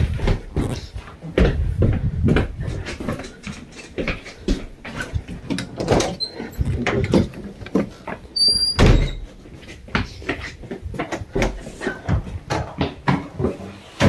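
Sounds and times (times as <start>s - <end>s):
footsteps going down stairs: 0.0s - 14.0s.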